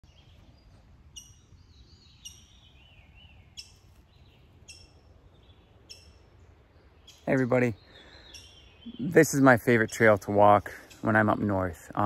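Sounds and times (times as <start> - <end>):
bird chirping: 0.0 - 12.0
bird singing softly: 0.0 - 12.0.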